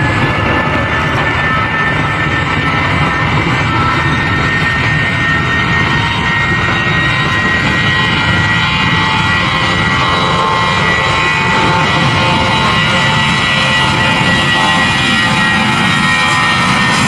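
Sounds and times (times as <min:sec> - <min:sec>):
high engine whine: 0:00.0 - 0:17.0
jet engines roaring: 0:00.0 - 0:17.0.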